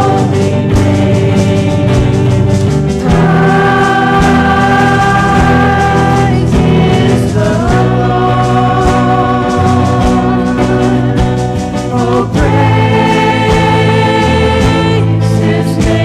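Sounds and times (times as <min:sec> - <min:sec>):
worship music with singing: 0:00.0 - 0:16.0.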